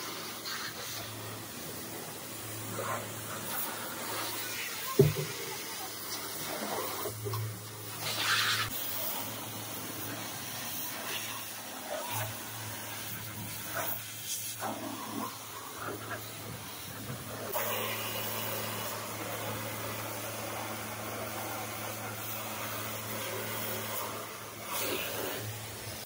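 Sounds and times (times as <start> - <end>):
pressure washer jet hissing: 0.0 - 26.0
washer pump motor hum: 0.0 - 26.0.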